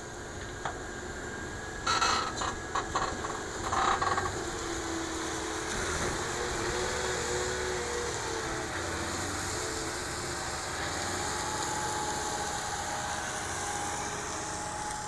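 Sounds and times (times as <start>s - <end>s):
tractor diesel engine under load: 1.0s - 15.0s.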